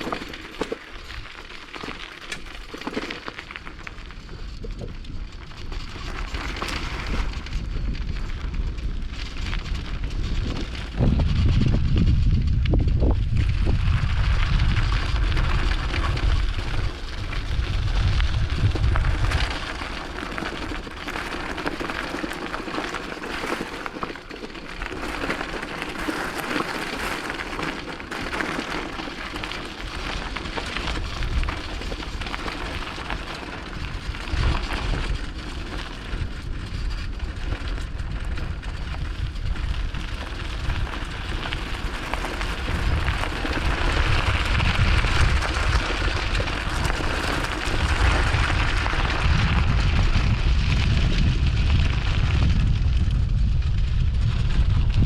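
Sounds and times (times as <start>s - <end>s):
bicycle tyres crackling on track: 0.0s - 55.0s
wind buffeting microphone: 3.9s - 23.8s, 24.6s - 55.0s.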